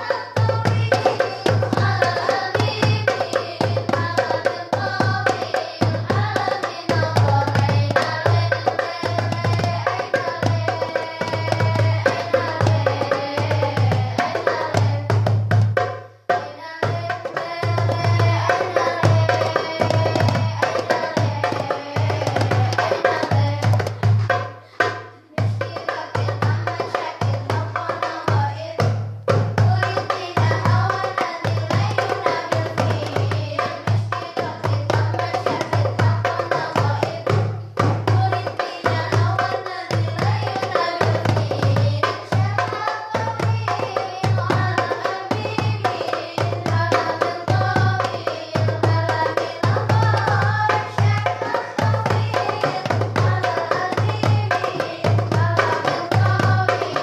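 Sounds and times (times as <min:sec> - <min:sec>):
frame drum with jingles: 0:00.0 - 0:57.0
women singing devotional song: 0:00.0 - 0:57.0.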